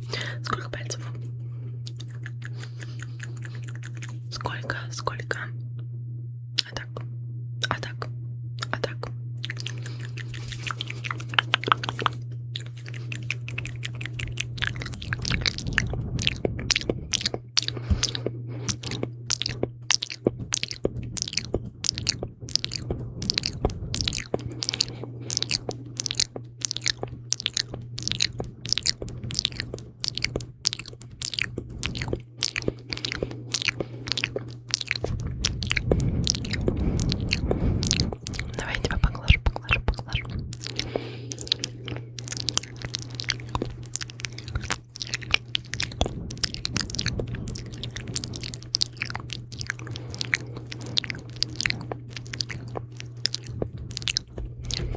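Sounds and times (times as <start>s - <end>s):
steady low hum: 0.0s - 54.9s
wet mouth clicks and smacks: 1.8s - 5.5s, 6.6s - 7.0s, 7.6s - 54.9s.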